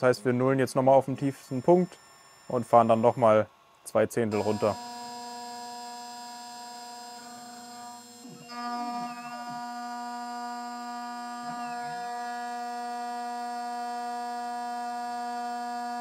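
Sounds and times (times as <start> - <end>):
milling spindle whining: 0.0 - 3.4, 4.3 - 16.0.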